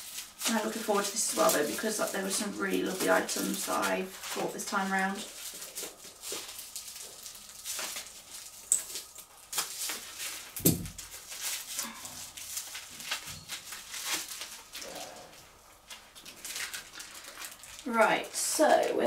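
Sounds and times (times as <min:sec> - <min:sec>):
packaging rustling: 0:00.0 - 0:19.0.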